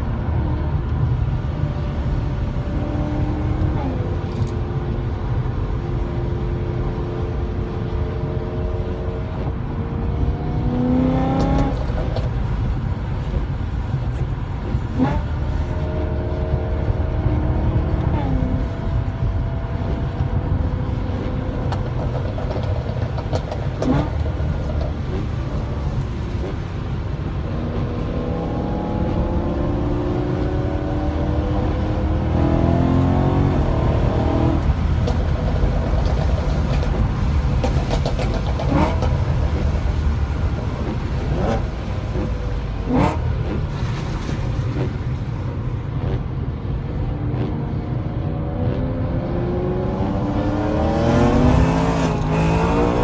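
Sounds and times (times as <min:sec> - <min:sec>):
car engine accelerating: 0:00.0 - 0:53.0
tyres rumbling on wet track: 0:00.0 - 0:53.0.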